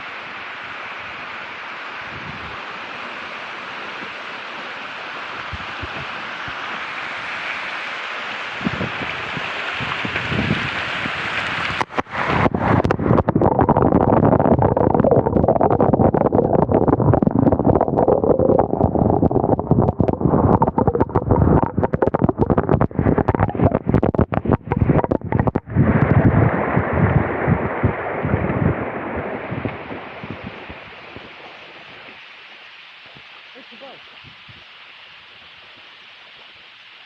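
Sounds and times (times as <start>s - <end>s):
rushing churning water: 0.0s - 37.0s.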